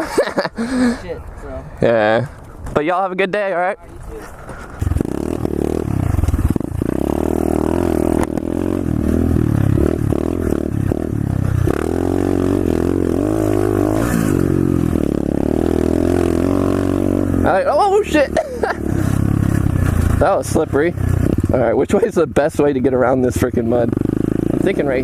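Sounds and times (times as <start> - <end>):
motorbike engine revving: 4.7 - 25.0.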